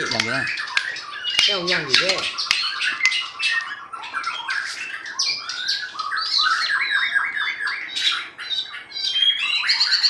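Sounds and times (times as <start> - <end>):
bird singing chirps and whistles: 0.0 - 10.0.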